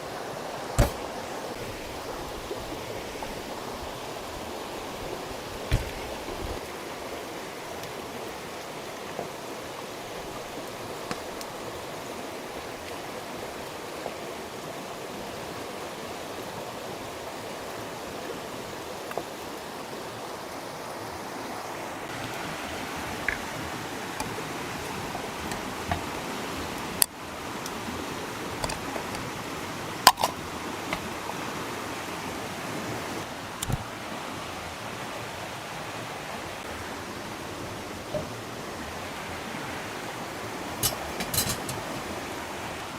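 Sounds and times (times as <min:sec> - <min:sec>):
running water: 0:00.0 - 0:42.9.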